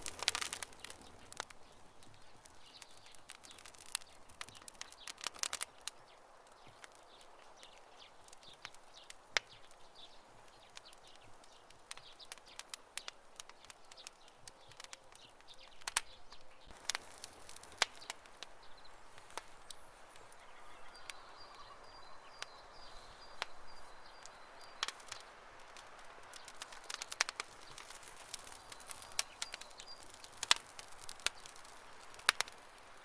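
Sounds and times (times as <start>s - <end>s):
campfire crackling: 0.0s - 33.0s
soft steady hiss: 0.0s - 33.0s.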